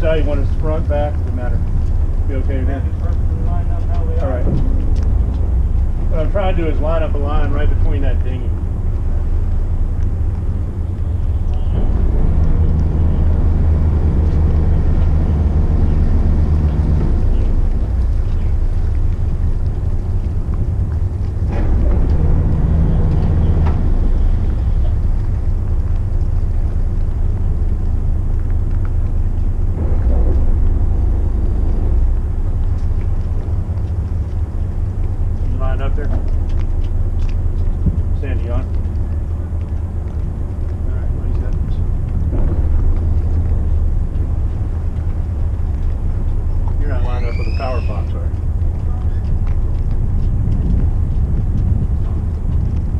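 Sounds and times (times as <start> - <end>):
boat diesel engines rumbling: 0.0 - 52.9
low drone: 0.0 - 52.9.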